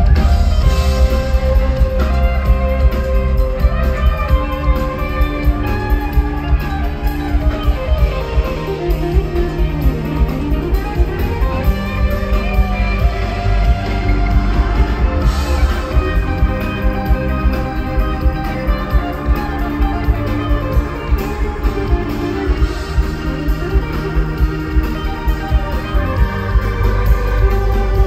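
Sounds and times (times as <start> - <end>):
guitar melody: 0.0 - 28.0
rock band playing live: 0.0 - 28.0.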